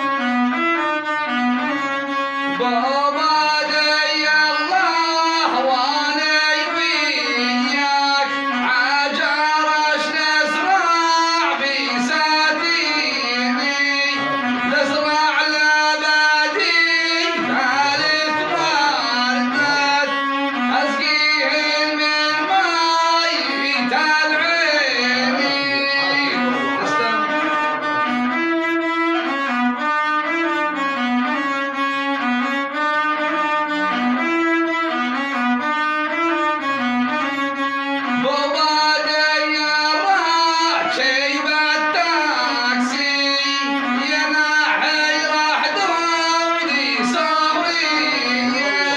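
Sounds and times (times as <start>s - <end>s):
bowed fiddle melody: 0.0s - 48.9s.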